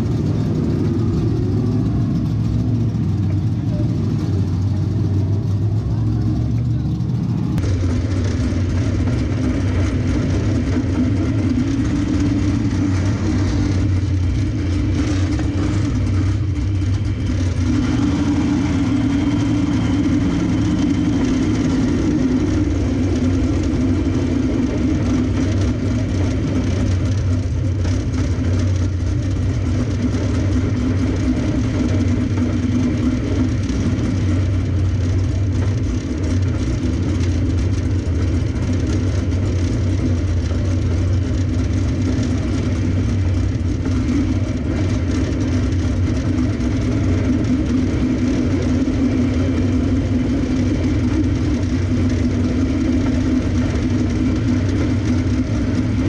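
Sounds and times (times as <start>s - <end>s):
race car engine at low revs: 0.0s - 56.0s.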